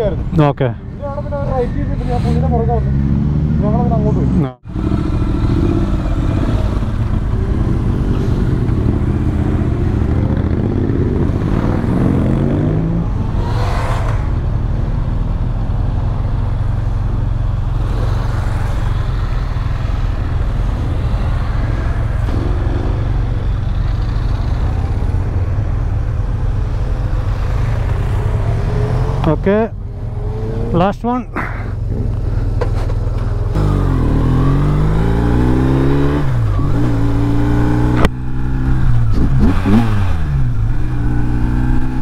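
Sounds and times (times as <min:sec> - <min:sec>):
motorcycles riding past: 0:02.4 - 0:15.4, 0:17.6 - 0:42.0.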